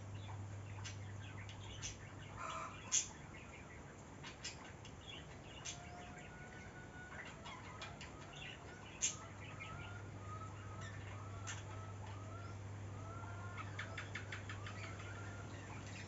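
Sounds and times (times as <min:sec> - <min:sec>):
birds chirping: 0:00.0 - 0:16.0
low steady hum: 0:00.0 - 0:16.0.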